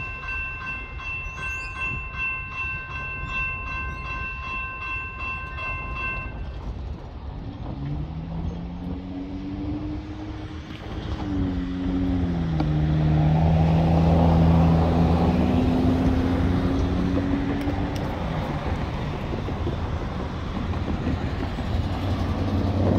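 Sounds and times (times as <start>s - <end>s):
diesel locomotive engines humming: 0.0s - 22.9s
road traffic: 0.0s - 22.9s.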